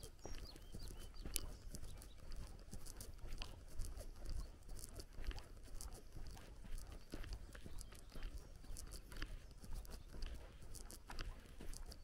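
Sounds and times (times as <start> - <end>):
footsteps on dirt path: 0.0 - 12.0.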